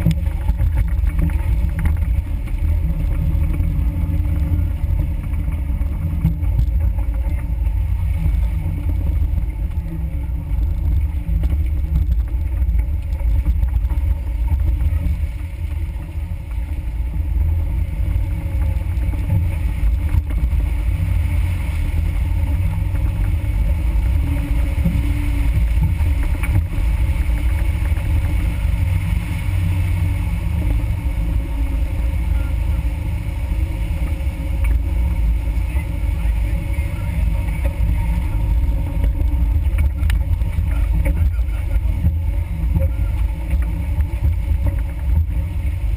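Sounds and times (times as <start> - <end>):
vehicle engine rumbling: 0.0 - 45.9.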